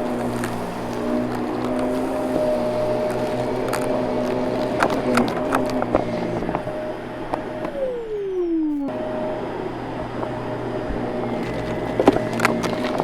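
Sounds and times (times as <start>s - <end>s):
vacuum cleaner motor running: 0.0s - 13.0s.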